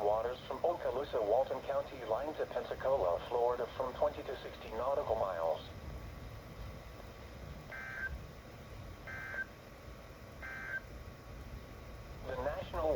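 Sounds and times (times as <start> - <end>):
low hiss: 0.0 - 12.9.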